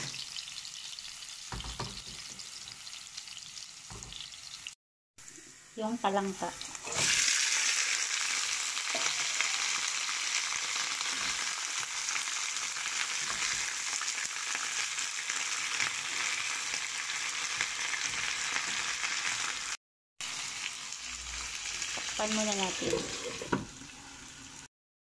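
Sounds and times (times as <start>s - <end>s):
crabs sizzling in hot oil: 0.0s - 24.7s.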